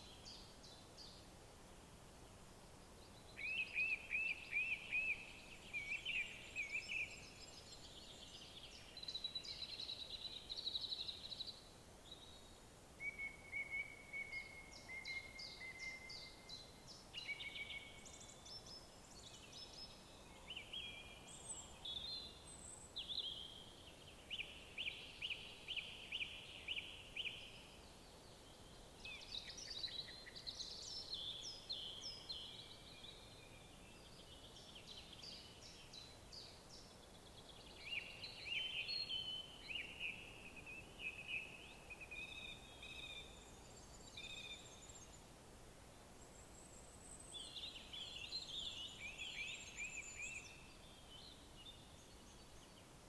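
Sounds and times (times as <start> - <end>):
faint steady hiss: 0.0 - 53.0
songbirds singing: 3.0 - 53.0.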